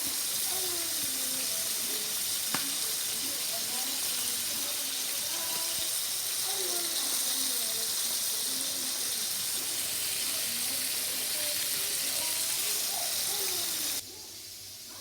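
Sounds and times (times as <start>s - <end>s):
faint voices: 0.0s - 15.0s
steady hiss: 0.0s - 15.0s.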